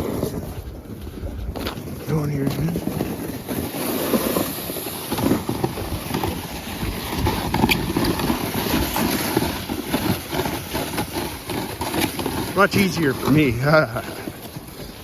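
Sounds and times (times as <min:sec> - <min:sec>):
footsteps crunching in snow: 0:00.0 - 0:15.0
sled scraping over snow: 0:00.0 - 0:15.0.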